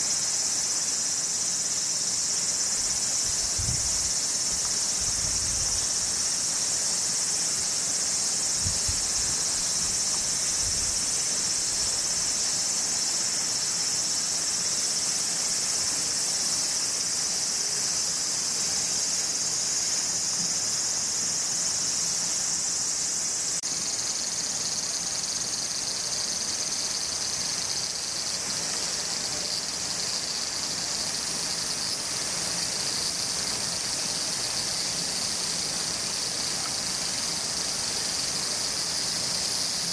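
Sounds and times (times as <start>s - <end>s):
insect chorus shrilling: 0.0s - 39.9s.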